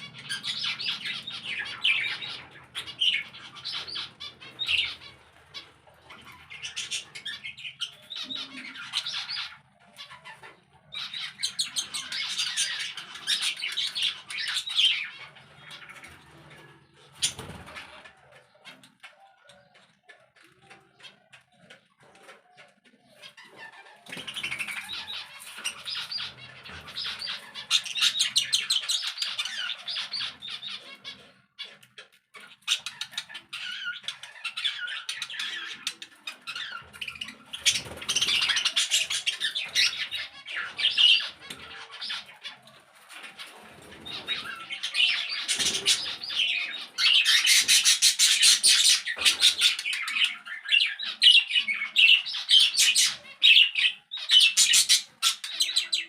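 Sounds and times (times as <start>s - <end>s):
bird squawks: 0.0s - 56.0s
caged birds chattering and chirping: 0.0s - 56.0s.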